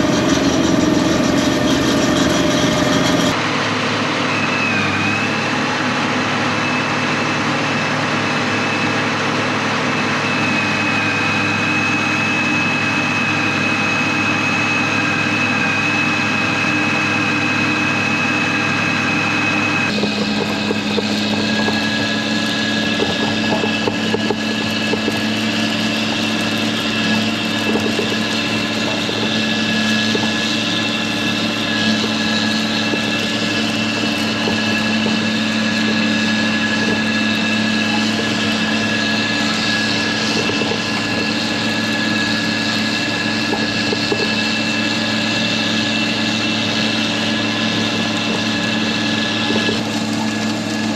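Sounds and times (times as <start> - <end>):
steady whine: 0.0 - 50.9
tractor diesel engine running: 0.0 - 50.9.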